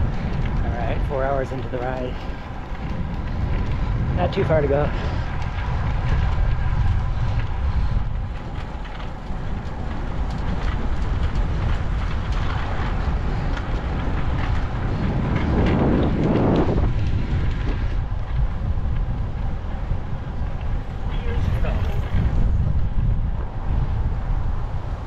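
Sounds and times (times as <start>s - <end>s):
low road rumble: 0.0s - 25.0s
wind rushing over microphone: 0.0s - 25.0s.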